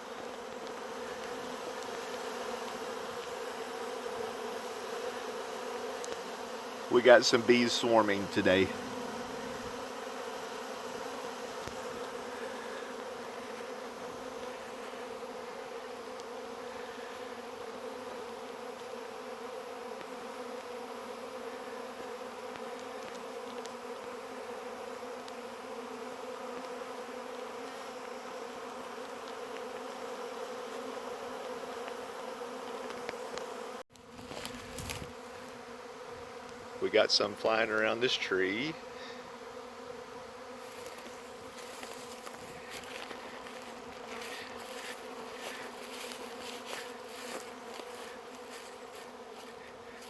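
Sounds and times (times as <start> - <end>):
bee swarm buzzing: 0.0 - 50.0.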